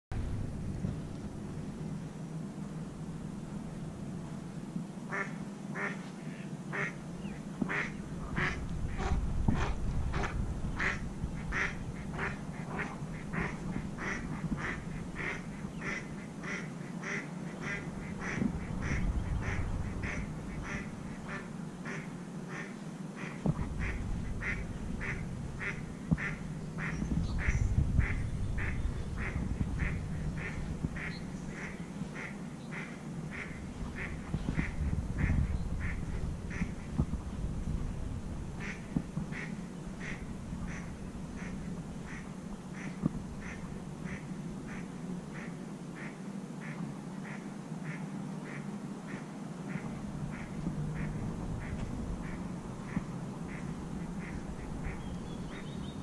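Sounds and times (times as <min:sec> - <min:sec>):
wind rumble on microphone: 0:00.1 - 0:06.0, 0:06.7 - 0:45.5, 0:48.4 - 0:56.0.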